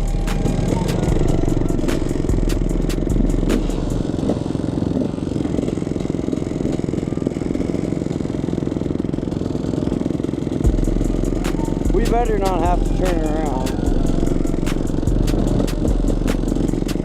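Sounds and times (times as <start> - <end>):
two-stroke dirt bike engine: 0.0 - 17.0.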